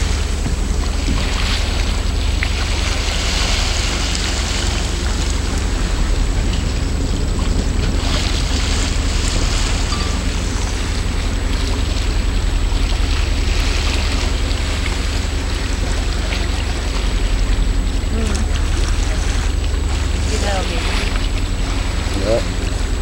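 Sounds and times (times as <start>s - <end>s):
steady low rumble: 0.0s - 23.0s
water rushing along hull: 0.0s - 23.0s
wind on microphone: 0.0s - 23.0s.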